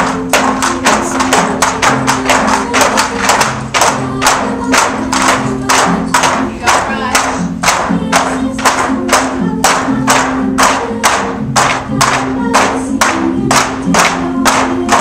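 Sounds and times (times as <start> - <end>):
bamboo poles clacking: 0.0 - 15.0
music with held notes: 0.0 - 15.0.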